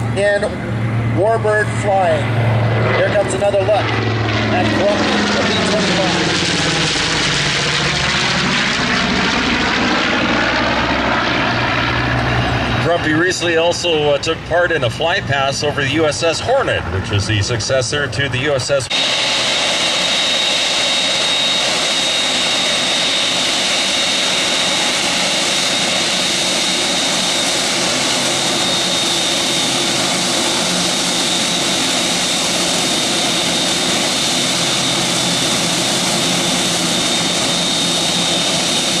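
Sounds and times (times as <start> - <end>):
high-pitched jet whine: 0.0 - 39.0
jet engines rushing: 0.0 - 39.0.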